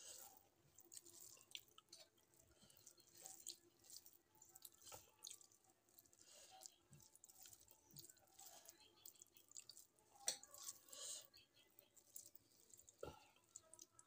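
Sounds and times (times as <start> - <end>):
fingers squishing rice on metal plate: 0.0 - 14.0.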